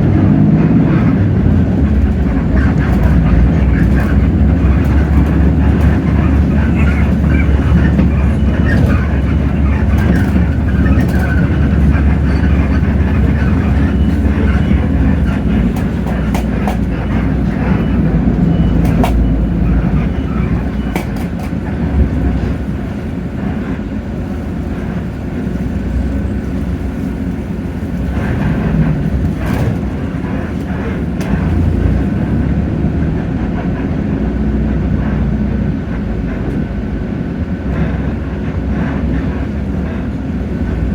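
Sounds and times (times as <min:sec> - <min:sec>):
bus body rattles and clicks: 0:00.0 - 0:40.9
bus diesel engine running: 0:00.0 - 0:40.9.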